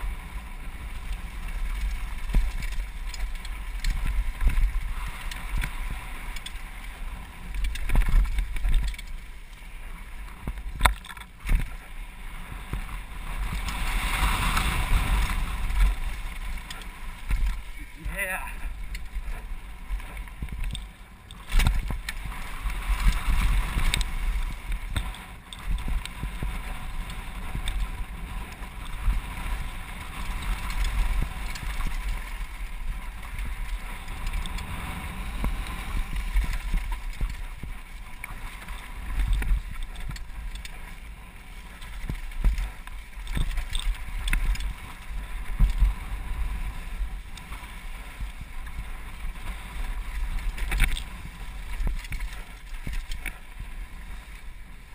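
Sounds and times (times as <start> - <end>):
bike rattling: 0.0 - 54.9.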